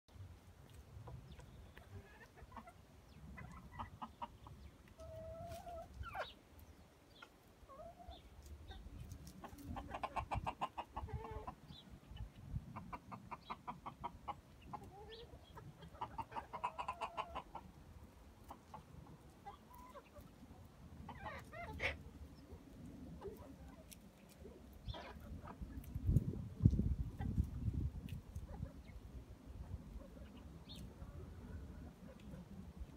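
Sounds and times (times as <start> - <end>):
hens clucking: 0.6 - 32.9.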